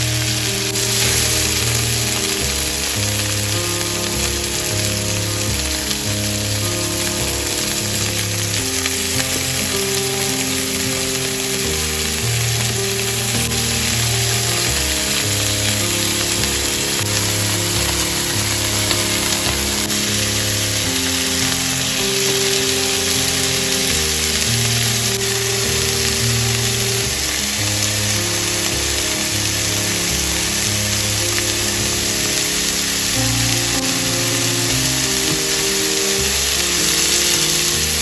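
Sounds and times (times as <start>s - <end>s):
chicken sizzling in hot oil: 0.0s - 38.0s
soft background music: 0.0s - 38.0s.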